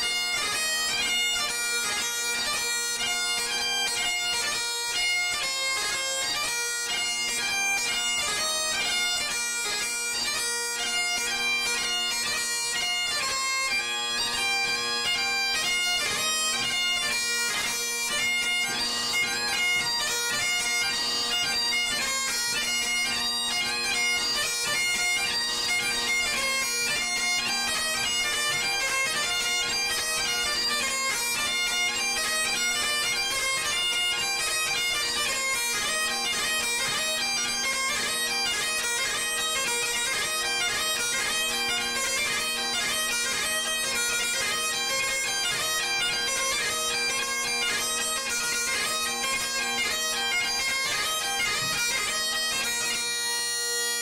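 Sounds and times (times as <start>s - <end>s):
bagpipe drones: 0.0s - 54.0s
bagpipe melody: 0.0s - 54.0s.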